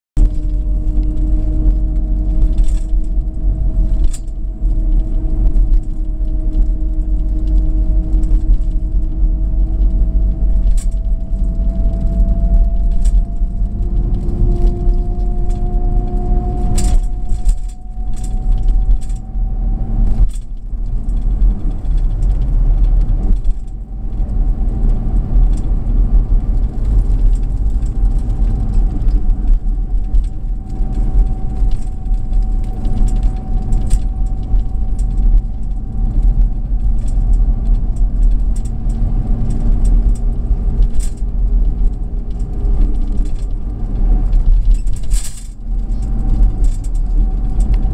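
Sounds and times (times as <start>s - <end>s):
car road rumble: 0.2s - 47.9s
engine hum: 0.2s - 47.9s
small clicks and rattles: 0.2s - 47.9s.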